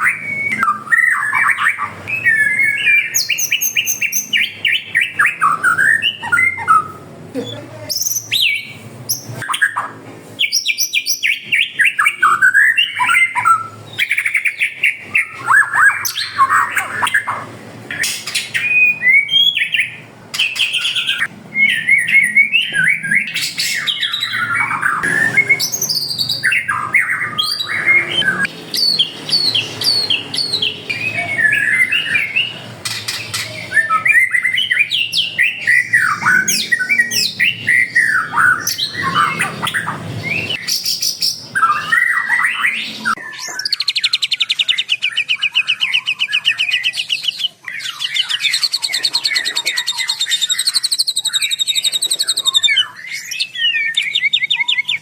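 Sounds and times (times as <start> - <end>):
songbirds chirping and whistling: 0.0 - 55.0.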